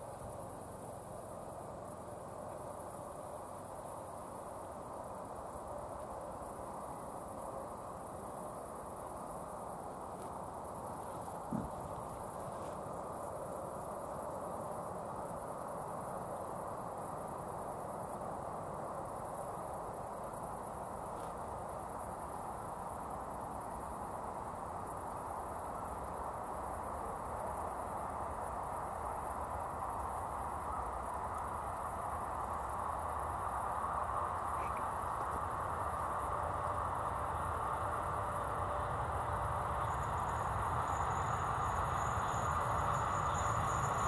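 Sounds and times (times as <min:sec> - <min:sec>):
insects chirping: 0:00.0 - 0:44.0.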